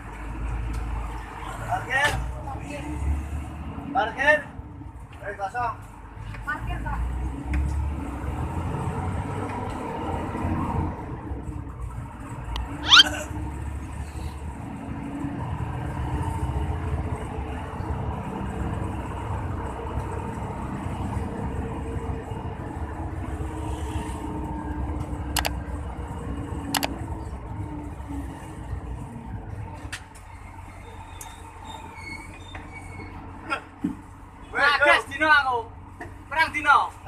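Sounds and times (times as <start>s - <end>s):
bus diesel engine rumbling: 0.0s - 9.2s, 10.0s - 37.0s.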